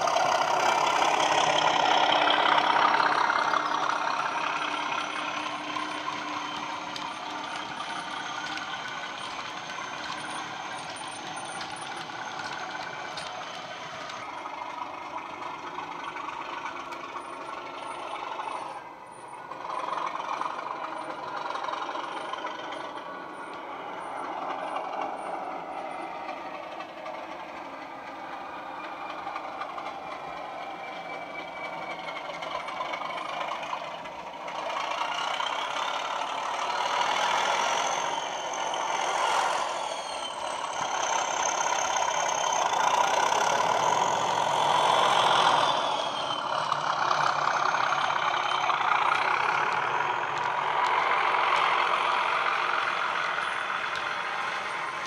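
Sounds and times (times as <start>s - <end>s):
diesel locomotive engine from small speaker: 0.0s - 55.0s
turbocharger whine: 0.0s - 55.0s.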